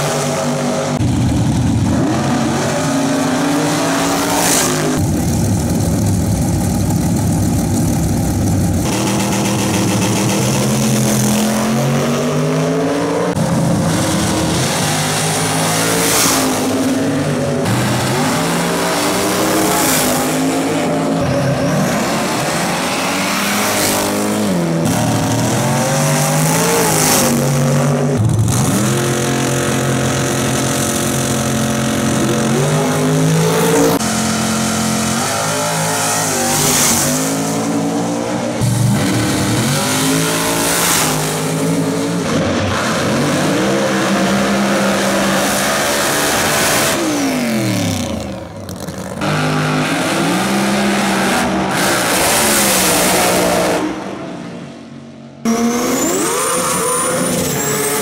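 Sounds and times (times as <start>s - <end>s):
drag racing engines revving: 0.0s - 58.0s.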